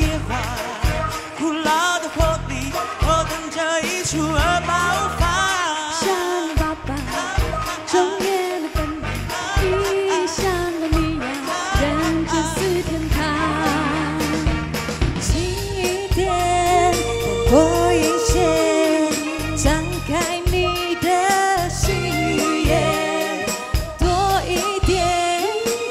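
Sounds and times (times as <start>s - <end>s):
live pop song with singing: 0.0s - 25.9s.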